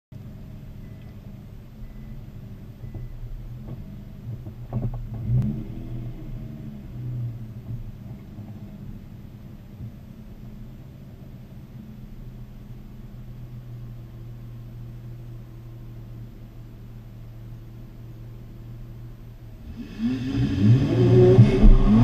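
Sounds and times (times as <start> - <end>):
car engines idling: 0.1 - 22.0.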